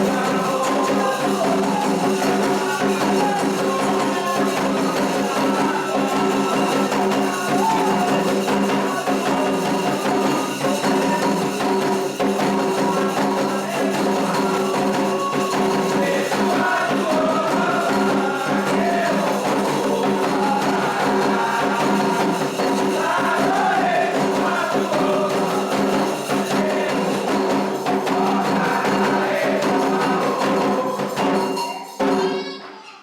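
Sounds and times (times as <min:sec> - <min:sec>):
group singing a chant: 0:00.0 - 0:32.1
fast hand percussion: 0:00.0 - 0:32.6.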